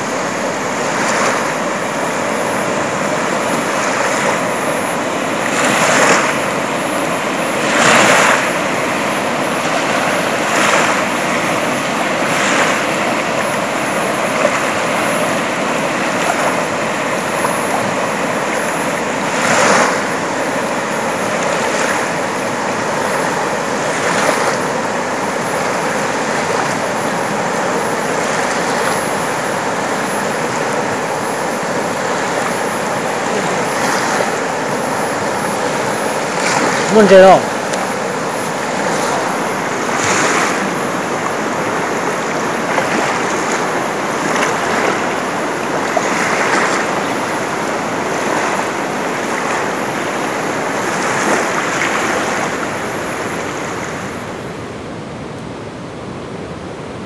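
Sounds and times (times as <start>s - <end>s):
rushing water: 0.0s - 54.6s.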